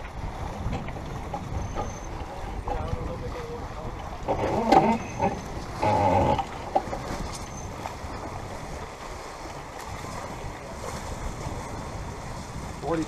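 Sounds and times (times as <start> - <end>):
water rushing past boat: 0.0 - 13.0
wind: 0.0 - 13.0.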